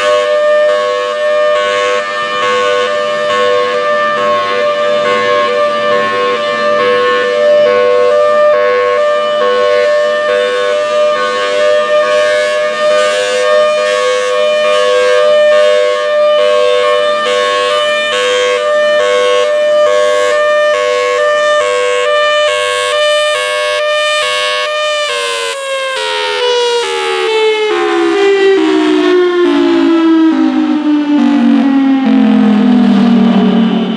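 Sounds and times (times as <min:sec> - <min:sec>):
tornado siren hi-lo signal: 0:00.0 - 0:33.9.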